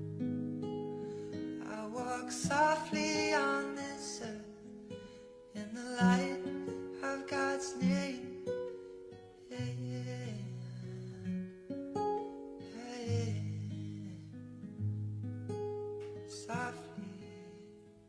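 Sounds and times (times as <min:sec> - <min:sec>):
gentle acoustic guitar music: 0:00.0 - 0:18.0.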